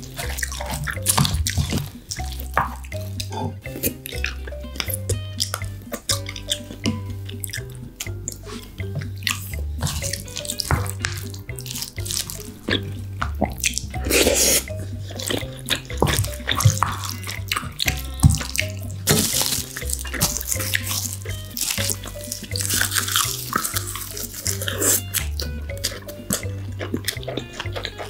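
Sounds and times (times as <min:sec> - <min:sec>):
background music with bass line: 0:00.0 - 0:28.0
wet eating and slurping: 0:00.0 - 0:28.0.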